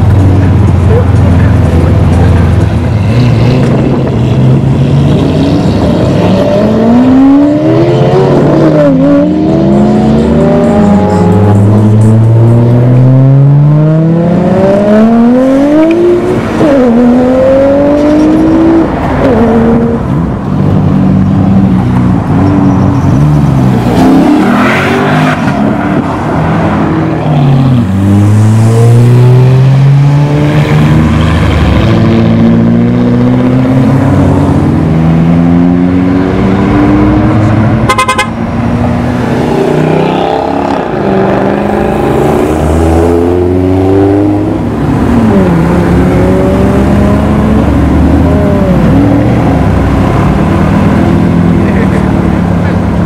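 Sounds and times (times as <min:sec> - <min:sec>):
sports cars accelerating: 0:00.0 - 0:53.0.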